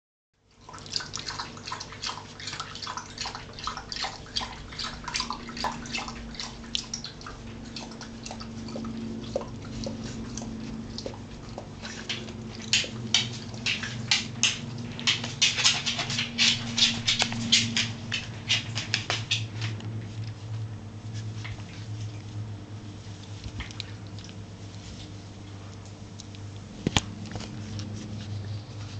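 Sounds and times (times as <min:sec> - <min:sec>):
steady low hum: 0:00.4 - 0:28.9.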